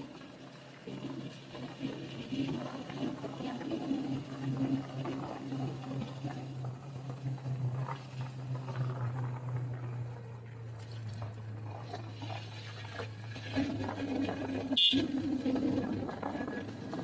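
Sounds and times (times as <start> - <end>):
motorcycle engine humming: 0.0 - 17.0
road and wind noise: 0.0 - 17.0.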